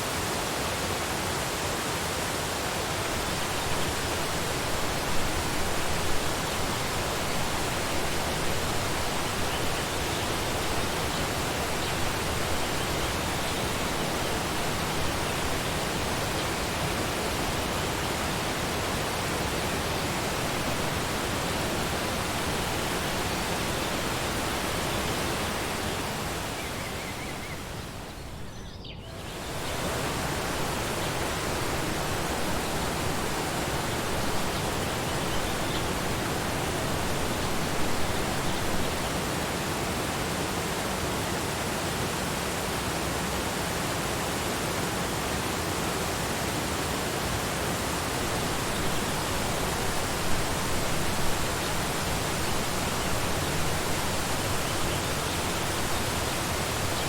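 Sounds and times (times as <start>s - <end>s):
waterfall rushing: 0.0s - 28.1s, 29.2s - 57.0s.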